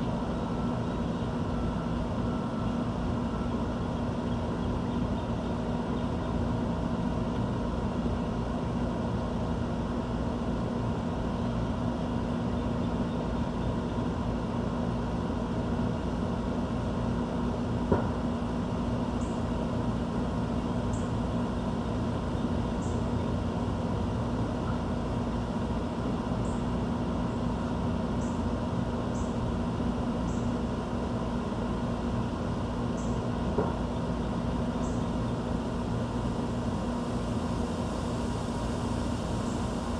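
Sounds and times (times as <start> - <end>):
low mechanical hum and rumble: 0.0 - 39.9.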